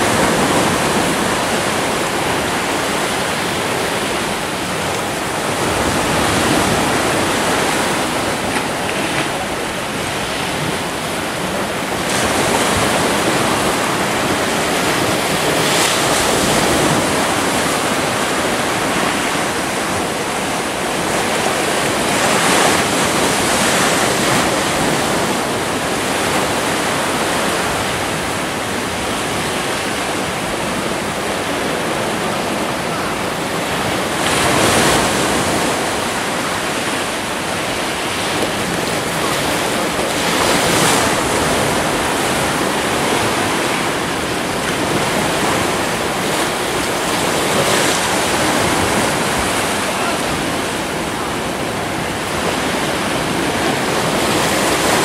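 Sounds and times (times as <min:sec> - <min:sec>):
sea surf breaking on boulders: 0:00.0 - 0:55.0.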